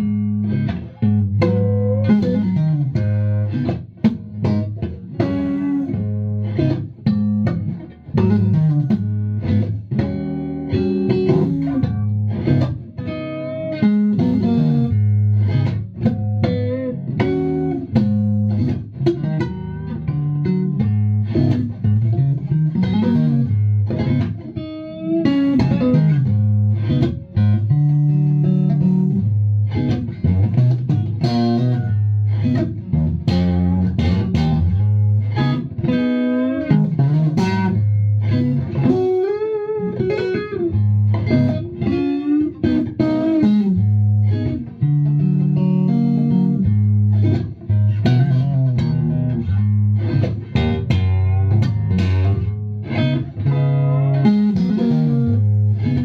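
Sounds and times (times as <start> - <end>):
electric guitar playing: 0.0 - 56.0.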